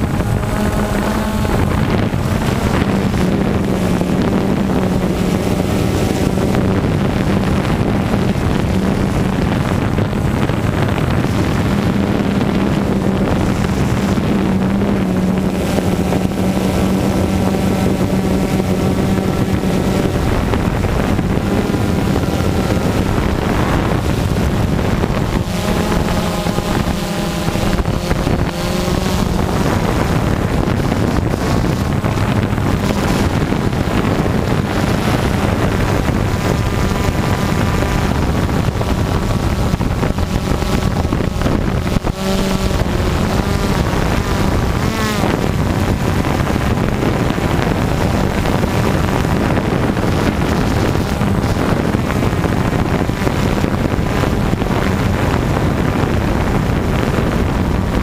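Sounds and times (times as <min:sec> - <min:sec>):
dirt bikes revving: 0:00.0 - 0:58.0
drone propellers buzzing: 0:00.0 - 0:58.0
wind on microphone: 0:00.0 - 0:58.0.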